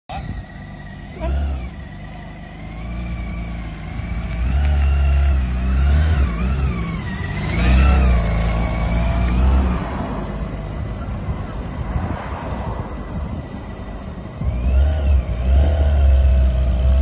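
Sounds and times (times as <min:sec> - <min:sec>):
motorcycle engine revving: 0:00.1 - 0:11.9, 0:14.3 - 0:17.0.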